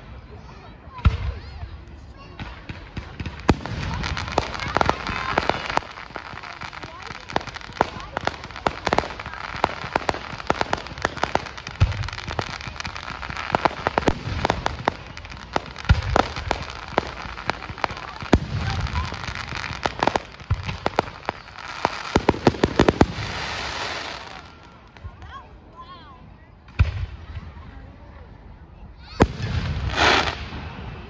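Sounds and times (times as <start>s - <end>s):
fireworks crackling: 0.0s - 25.6s, 29.0s - 31.0s
fireworks booming: 2.2s - 25.1s, 29.0s - 31.0s.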